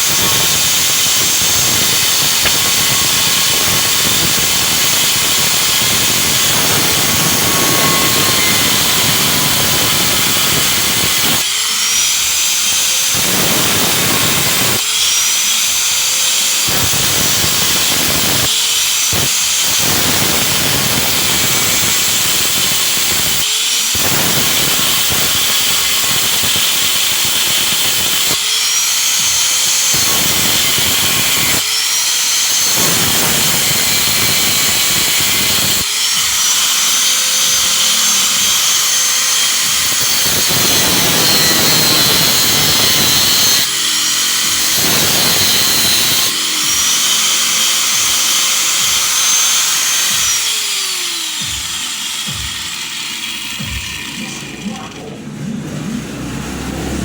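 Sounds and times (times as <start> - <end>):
angle grinder cutting metal: 0.0 - 57.0.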